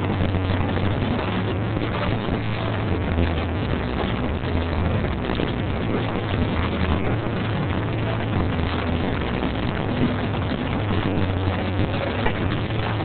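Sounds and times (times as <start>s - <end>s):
line-dance music over speakers: 0.0s - 13.0s.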